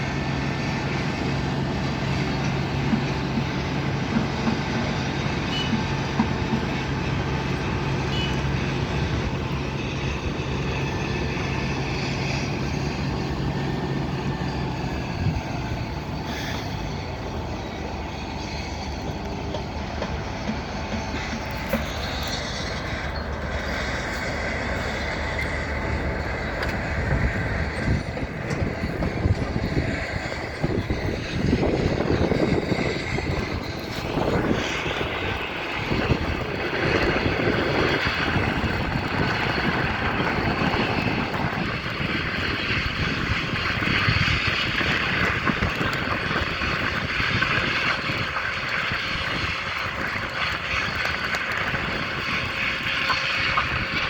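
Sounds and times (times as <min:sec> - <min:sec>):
engine-like machinery noise: 0:00.0 - 0:54.0.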